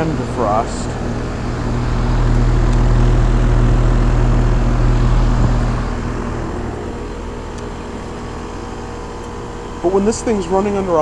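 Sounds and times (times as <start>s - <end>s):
compressor hum: 0.0s - 11.0s
condenser fan whoosh: 0.0s - 11.0s.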